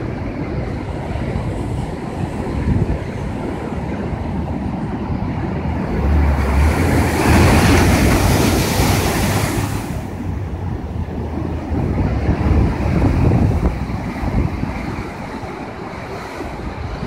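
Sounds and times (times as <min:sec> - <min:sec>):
surf crashing on rocks: 0:00.0 - 0:17.0
wind buffeting microphone: 0:00.0 - 0:17.0.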